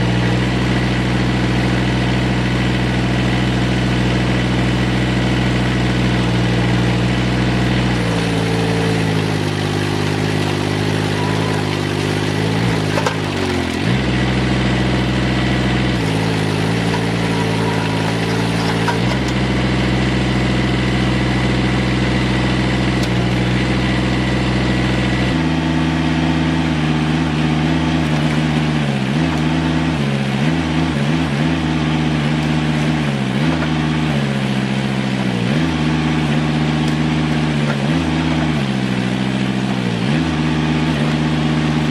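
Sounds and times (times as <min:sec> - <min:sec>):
off-road vehicle engine revving: 0:00.0 - 0:41.9.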